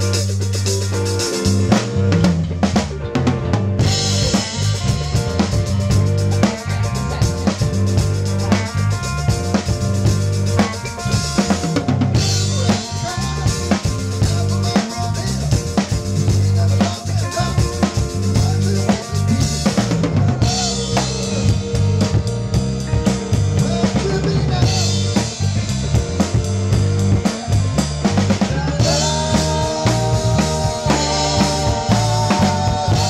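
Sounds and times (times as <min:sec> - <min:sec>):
drum kit beat: 0:00.0 - 0:33.0
held melodic notes: 0:00.0 - 0:33.0
live rock band playing: 0:00.0 - 0:33.0.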